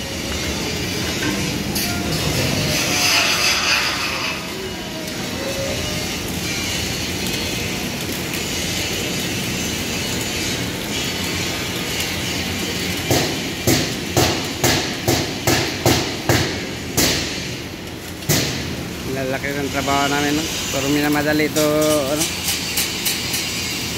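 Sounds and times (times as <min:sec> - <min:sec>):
arc welding crackling hiss: 0:00.0 - 0:23.9.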